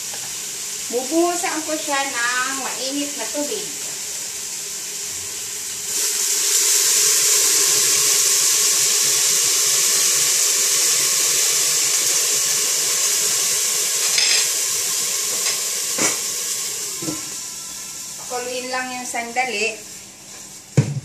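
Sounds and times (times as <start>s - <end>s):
water pouring into hot pan: 0.0s - 18.7s.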